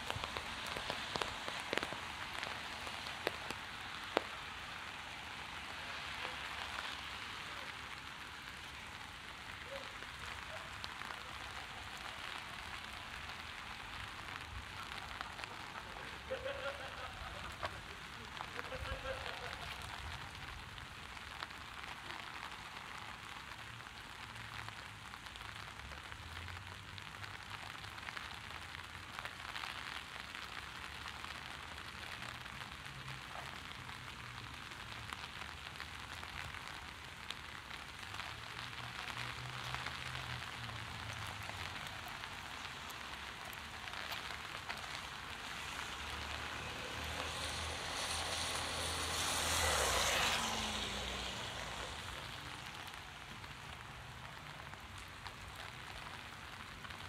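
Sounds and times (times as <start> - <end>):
heavy rain on street: 0.0 - 57.0
low traffic rumble: 0.0 - 57.0
tyres hissing on wet road: 0.0 - 57.0.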